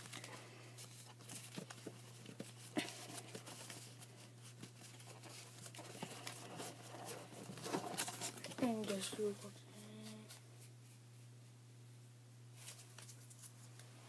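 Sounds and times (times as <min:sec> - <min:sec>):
cards and foil pack rustling: 0:00.0 - 0:10.4, 0:12.6 - 0:13.8
steady low hum: 0:00.0 - 0:14.0.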